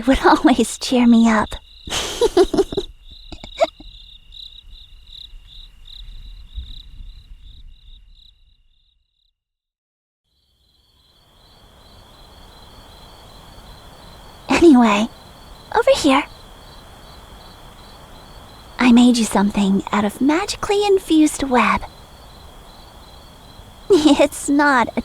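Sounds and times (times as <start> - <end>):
faint steady hiss: 0.0 - 7.7, 10.4 - 25.0
crickets chirping: 0.0 - 9.3, 10.3 - 25.0.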